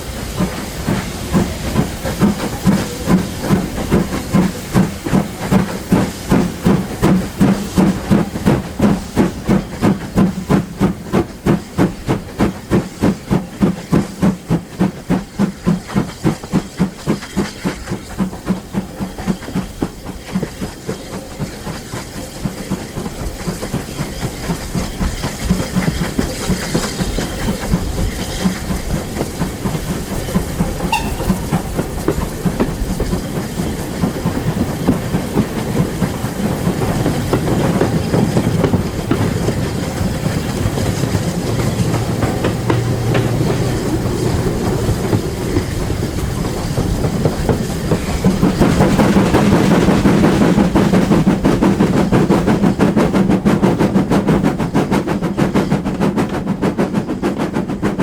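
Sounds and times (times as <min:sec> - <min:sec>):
steam locomotive exhaust beats: 0:00.0 - 0:58.0
train rumbling on rails: 0:00.0 - 0:58.0.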